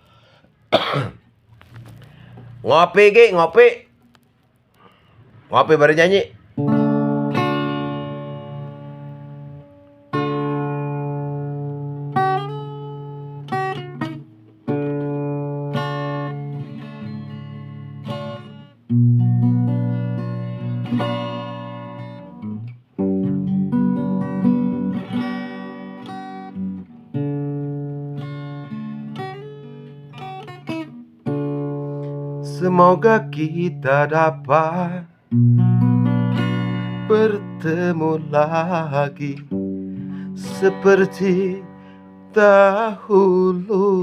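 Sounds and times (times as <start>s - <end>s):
acoustic guitar chords: 0.1s - 4.1s, 6.2s - 44.0s.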